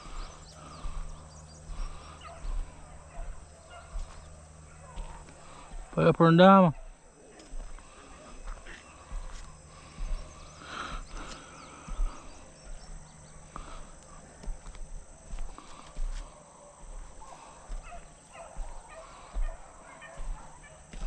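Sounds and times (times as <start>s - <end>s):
dogs baying: 0.0s - 6.0s, 6.7s - 21.0s
footsteps on sandy dirt: 0.0s - 21.0s.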